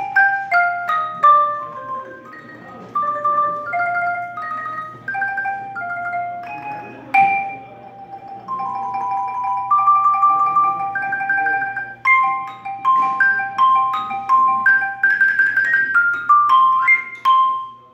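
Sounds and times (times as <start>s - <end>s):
marimba played with mallets: 0.0s - 17.9s.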